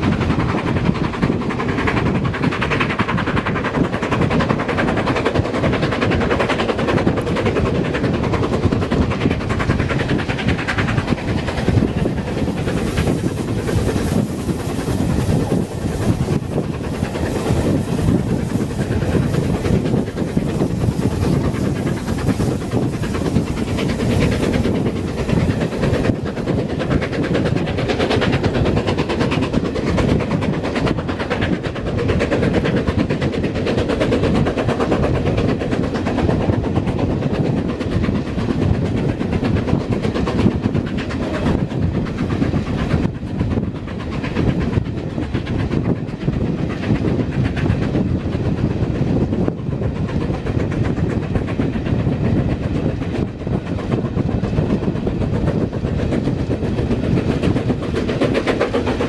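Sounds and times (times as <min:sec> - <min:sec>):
clickety-clack of rail joints: 0:00.0 - 0:59.0.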